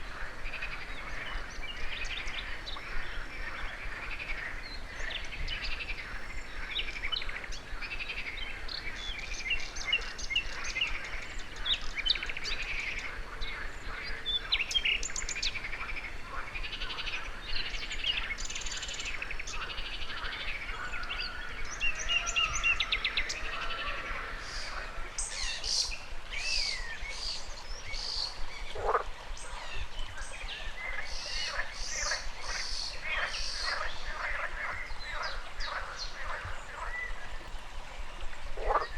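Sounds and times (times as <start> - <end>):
birds chirping and singing: 0.0 - 37.5
frogs calling: 0.0 - 37.6, 38.6 - 38.9.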